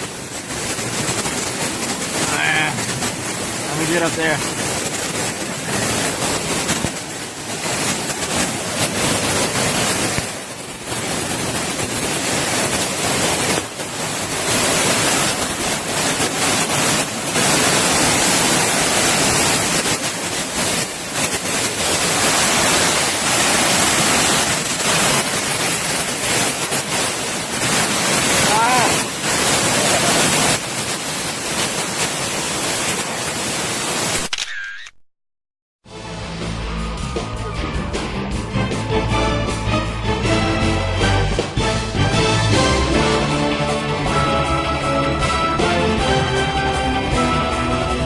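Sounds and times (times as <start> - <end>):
waterfall roaring: 0.0 - 34.3, 40.2 - 48.0.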